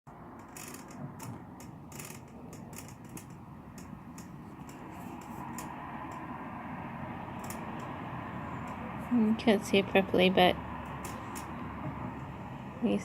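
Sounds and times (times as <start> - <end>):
steady background hum: 0.1 - 13.0.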